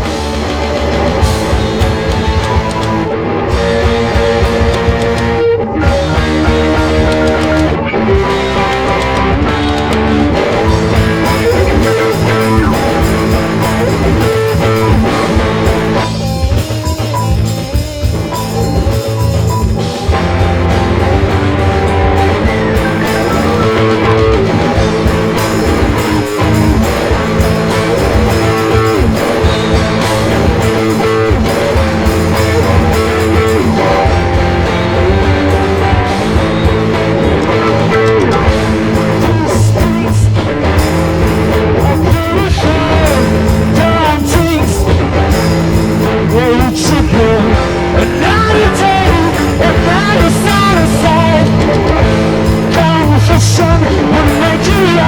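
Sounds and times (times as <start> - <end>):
bending electric guitar lines: 0.0 - 55.0
live rock band playing: 0.0 - 55.0.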